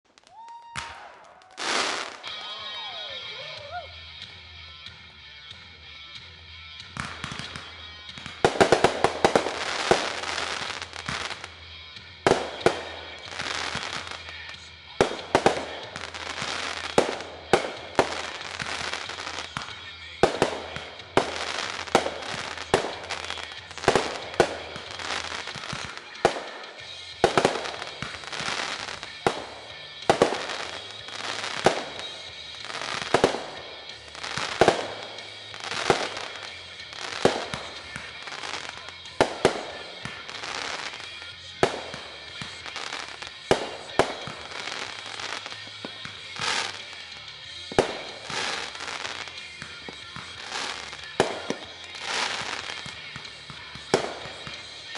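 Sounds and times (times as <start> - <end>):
rock song playing: 1.6 - 54.9.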